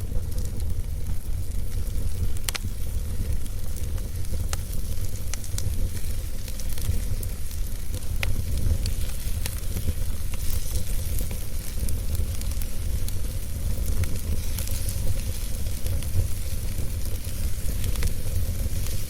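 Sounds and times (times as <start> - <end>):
burning wood crackling: 0.0 - 19.0
fire flames rumbling: 0.0 - 19.0.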